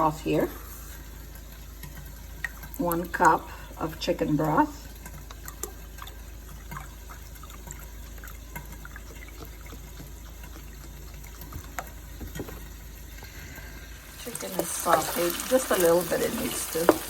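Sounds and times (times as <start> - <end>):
liquid trickling: 0.0 - 17.0.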